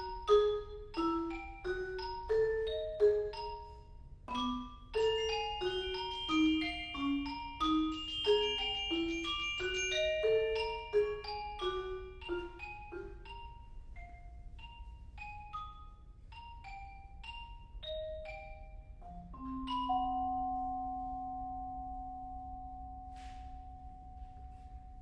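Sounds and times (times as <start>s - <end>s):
xylophone and vibraphone notes: 0.0s - 25.0s.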